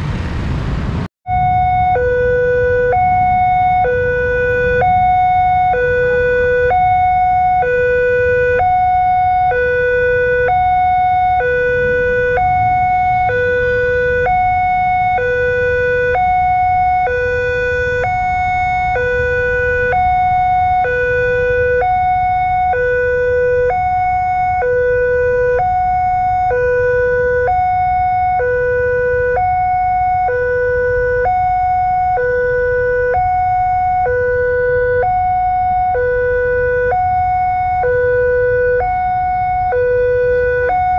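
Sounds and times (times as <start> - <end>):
level crossing alarm two-tone wail: 1.3 - 40.9.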